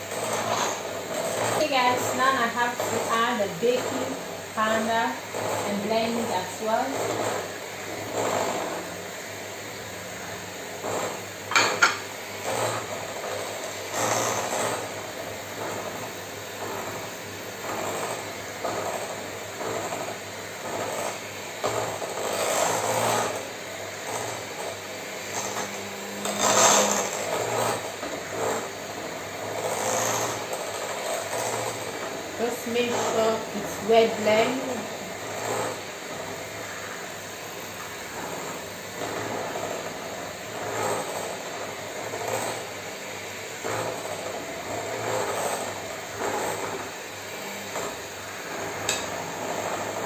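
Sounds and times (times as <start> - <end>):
electric hand mixer whisking: 0.0 - 50.0.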